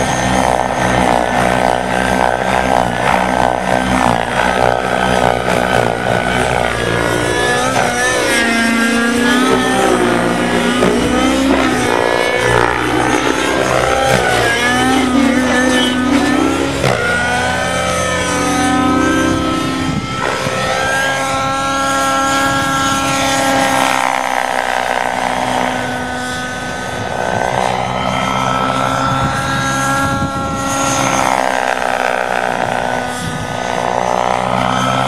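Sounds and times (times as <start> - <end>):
model helicopter engine running: 0.0 - 35.0.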